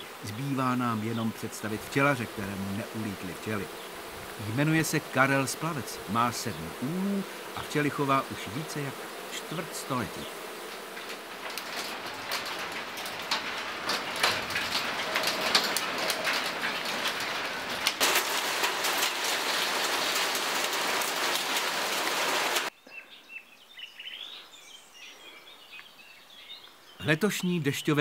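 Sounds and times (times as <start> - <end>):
heavy rain on roof tiles: 0.0 - 22.8
birds chirping: 0.0 - 28.0.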